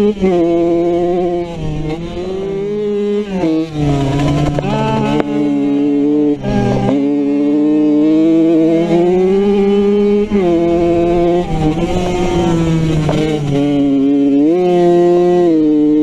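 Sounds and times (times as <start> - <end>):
motorcycle engine revving: 0.0 - 16.0
second motorcycle engine: 0.0 - 16.0.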